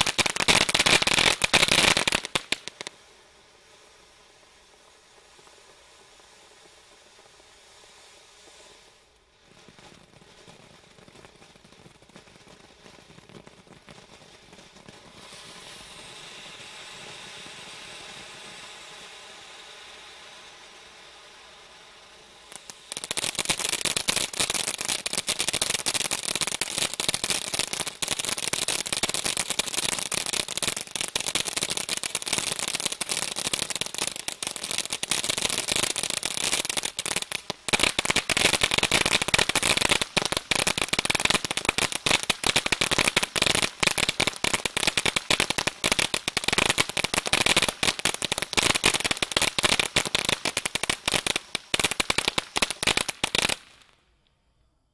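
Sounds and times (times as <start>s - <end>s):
firework fountain crackling: 0.0s - 54.2s.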